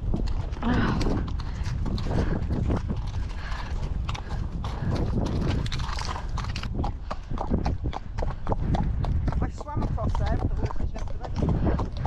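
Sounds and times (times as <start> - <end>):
horse hoofbeats: 0.0 - 12.0
wind buffeting microphone: 0.0 - 12.0.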